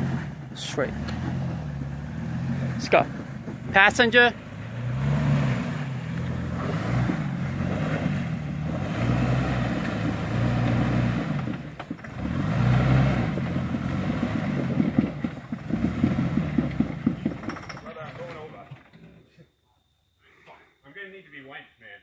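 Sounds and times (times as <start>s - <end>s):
engine revving under load: 0.0s - 18.4s.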